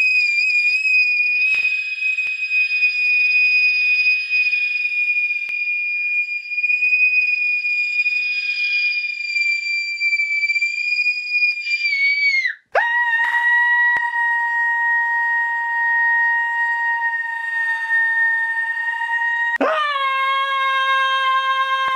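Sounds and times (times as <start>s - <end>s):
high-pitched whistling tone: 0.0s - 19.8s.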